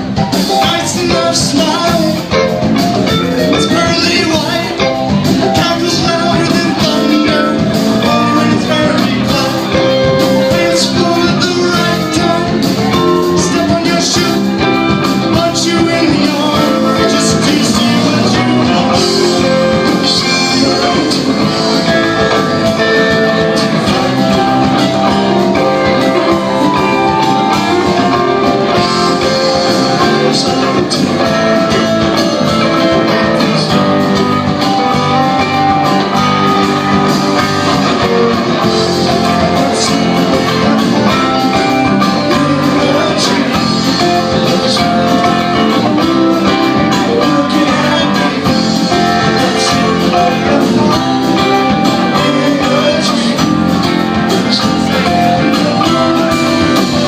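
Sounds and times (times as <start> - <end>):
electric guitar: 0.0 - 57.0
live rock band: 0.0 - 57.0.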